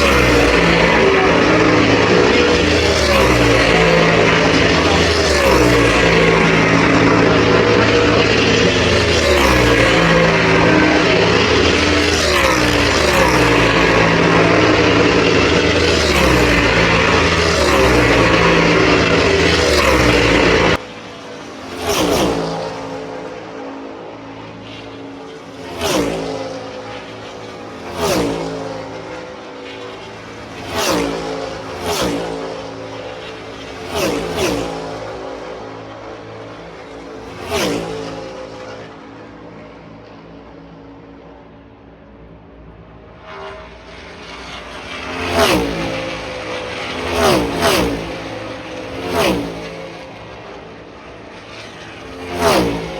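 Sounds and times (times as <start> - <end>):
race car engines passing at speed: 0.0 - 52.9.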